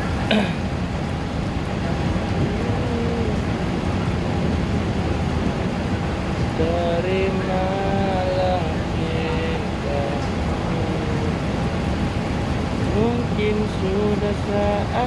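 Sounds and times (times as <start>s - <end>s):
ship engine rumble: 0.0s - 15.0s
water along hull: 0.0s - 15.0s
wind on microphone: 0.0s - 15.0s.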